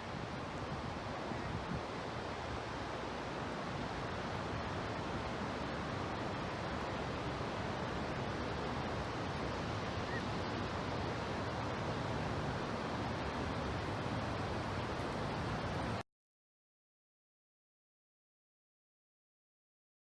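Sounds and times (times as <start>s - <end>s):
floodwater rushing in river: 0.0s - 16.0s.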